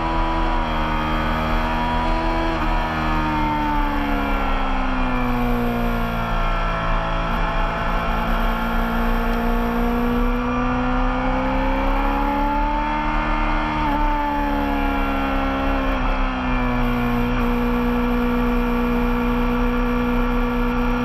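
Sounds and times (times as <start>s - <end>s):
racing motorcycle engine: 0.0s - 21.0s.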